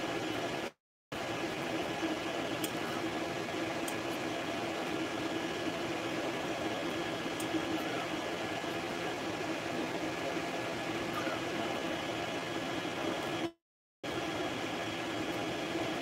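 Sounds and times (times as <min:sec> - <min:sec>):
cooling fans whirring: 0:00.0 - 0:16.0
stepper motors humming: 0:00.0 - 0:16.0.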